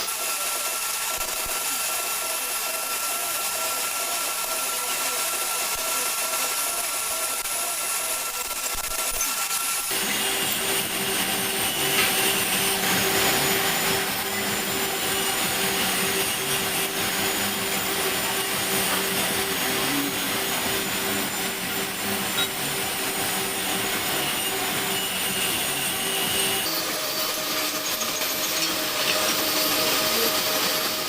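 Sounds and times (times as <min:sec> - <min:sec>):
metal lathe humming: 0:00.0 - 0:31.0.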